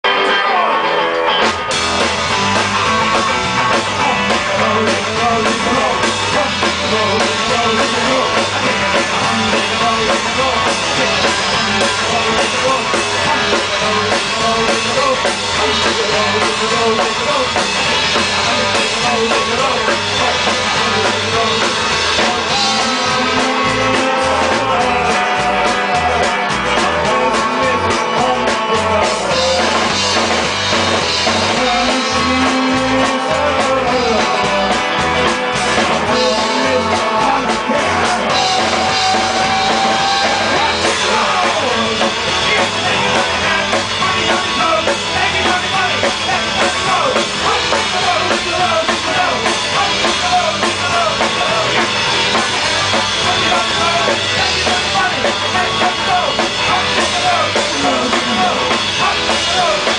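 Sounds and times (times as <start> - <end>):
drum kit: 0.0 - 59.9
electric guitar: 0.0 - 59.9
person singing: 2.0 - 59.9.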